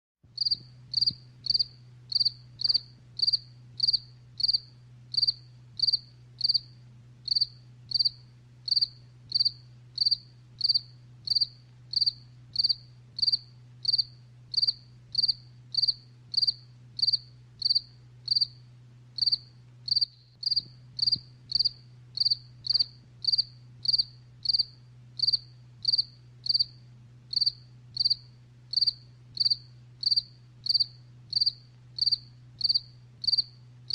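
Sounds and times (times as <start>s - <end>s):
cricket chirping: 0.4s - 18.6s, 19.2s - 33.9s.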